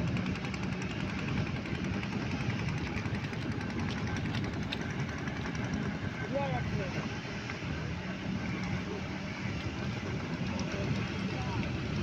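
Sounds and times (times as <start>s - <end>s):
motor boat engine rumbling: 0.0s - 12.0s.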